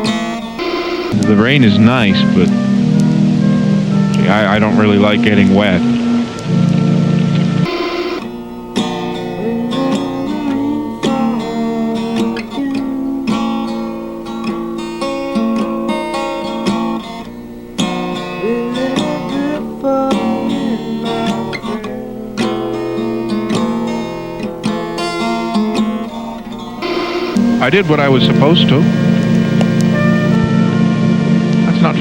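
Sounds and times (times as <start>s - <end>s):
acoustic guitar strumming chords: 0.0s - 32.0s.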